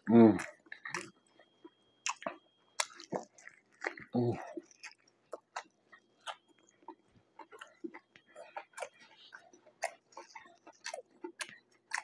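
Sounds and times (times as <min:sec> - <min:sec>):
wet chewing mouth clicks: 0:00.4 - 0:12.0.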